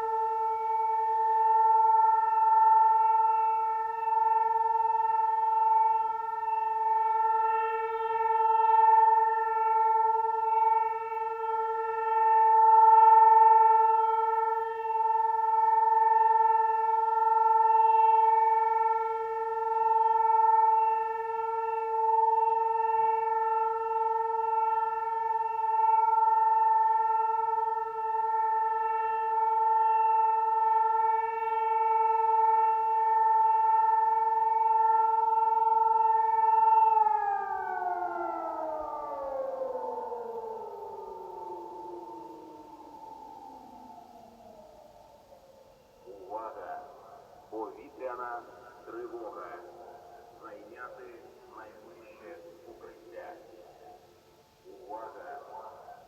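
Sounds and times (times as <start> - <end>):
air-raid siren steady tone: 0.0 - 56.0.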